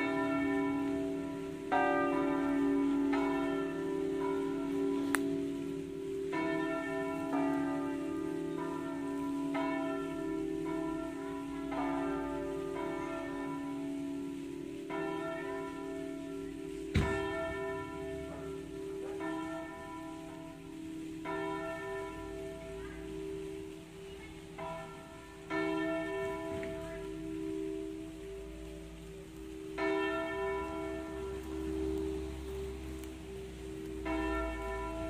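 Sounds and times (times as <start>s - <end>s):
church bells pealing: 0.0s - 35.0s.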